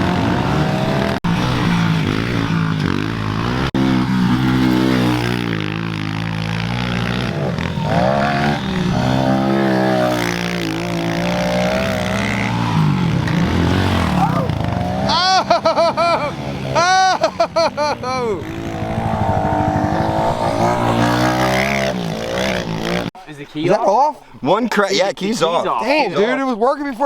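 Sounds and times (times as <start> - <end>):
pit bike engine revving: 0.0 - 23.1.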